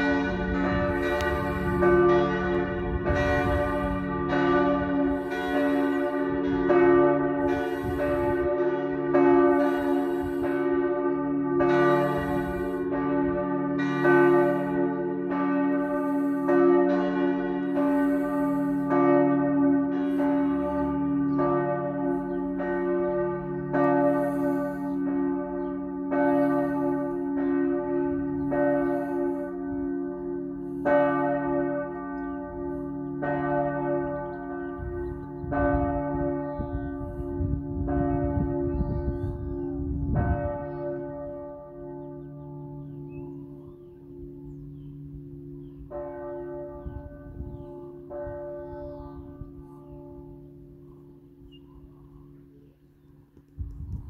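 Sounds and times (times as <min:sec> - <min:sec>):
church bells pealing: 0:00.0 - 0:53.6.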